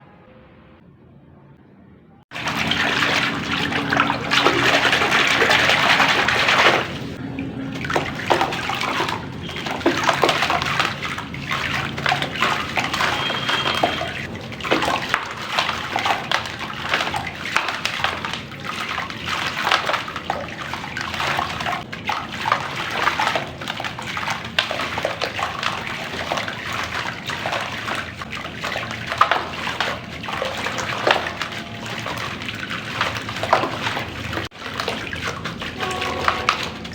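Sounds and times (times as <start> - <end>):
clay crackling and splashing: 2.3 - 36.9
water rushing: 2.3 - 36.9.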